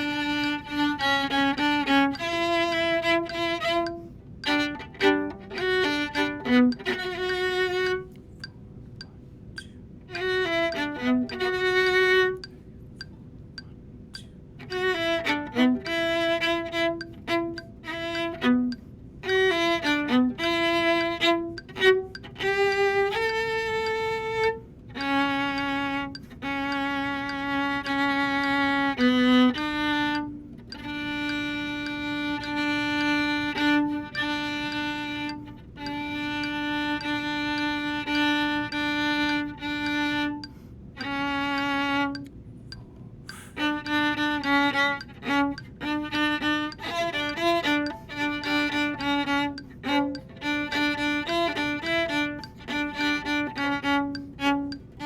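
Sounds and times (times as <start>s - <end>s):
solo viola bowing: 0.0s - 8.5s, 9.6s - 13.1s, 14.2s - 42.3s, 43.3s - 55.0s.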